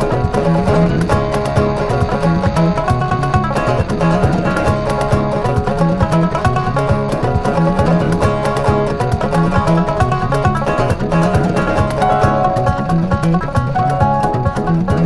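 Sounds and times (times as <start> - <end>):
plucked string music with beat: 0.0 - 15.0.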